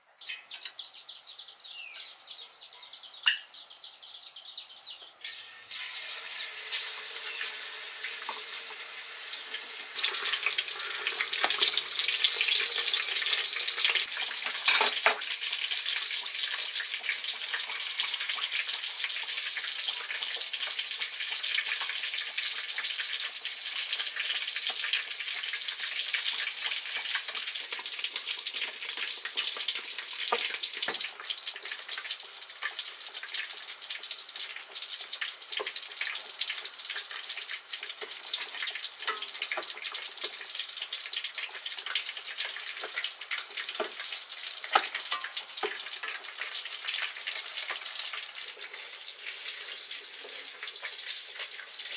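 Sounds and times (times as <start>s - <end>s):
meat sizzling in hot oil: 4.8s - 51.9s.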